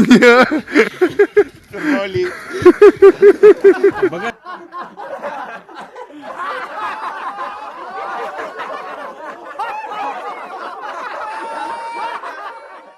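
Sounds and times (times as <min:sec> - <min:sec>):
people laughing: 0:00.0 - 0:12.9.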